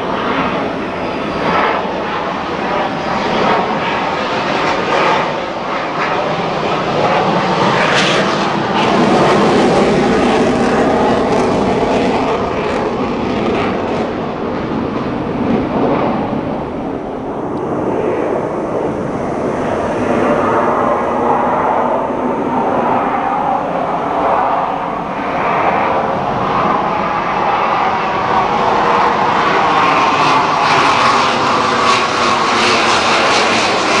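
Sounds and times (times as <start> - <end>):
jet aircraft roar: 0.0 - 34.0.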